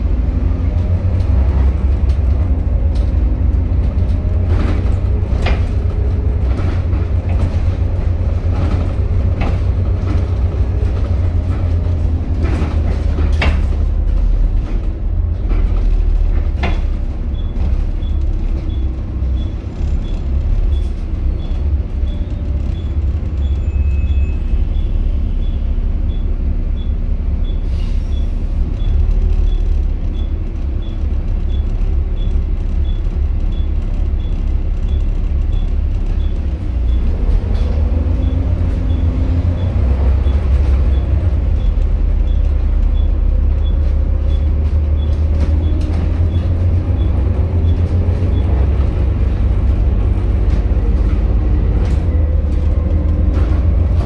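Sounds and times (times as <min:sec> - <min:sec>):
bus diesel engine rumble: 0:00.0 - 0:54.0.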